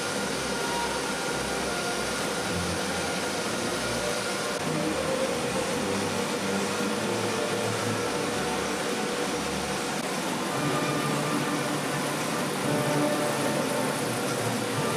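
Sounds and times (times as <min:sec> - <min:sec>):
machinery humming and hissing: 0:00.0 - 0:14.9.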